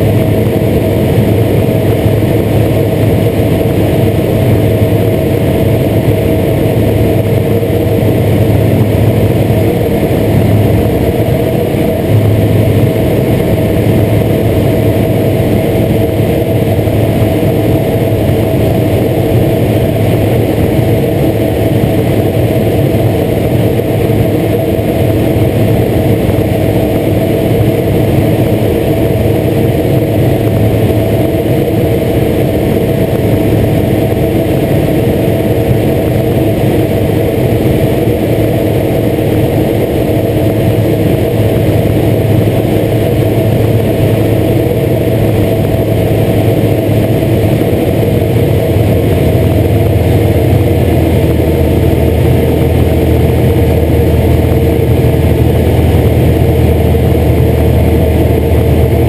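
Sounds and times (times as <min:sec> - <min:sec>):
airflow noise: 0:00.0 - 0:59.0
light aircraft engine and propeller: 0:00.0 - 0:59.0.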